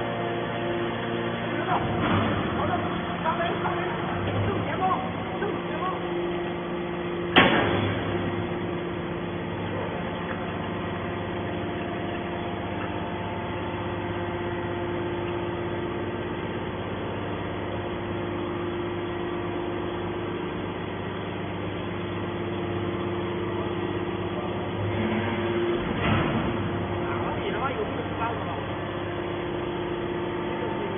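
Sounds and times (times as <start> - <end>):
hydraulic motor and pump humming: 0.0 - 30.9.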